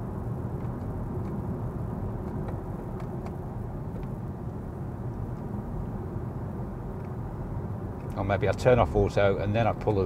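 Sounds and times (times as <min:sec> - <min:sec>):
road and tyre noise in car: 0:00.0 - 0:10.0.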